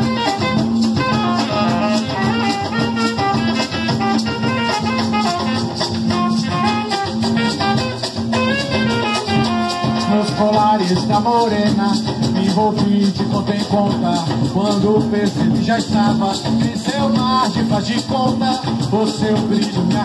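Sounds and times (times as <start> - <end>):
drums: 0.0 - 20.0
instrumental melody line: 0.0 - 20.0
shaken rattles: 0.0 - 20.0.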